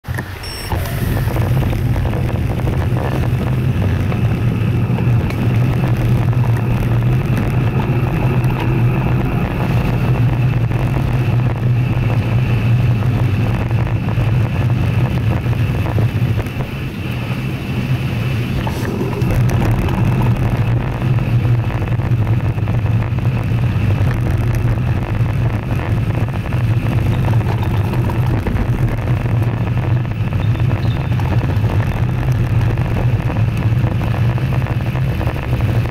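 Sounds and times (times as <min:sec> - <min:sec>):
bicycle road noise: 0:00.0 - 0:35.9
low wind rumble: 0:00.0 - 0:35.9.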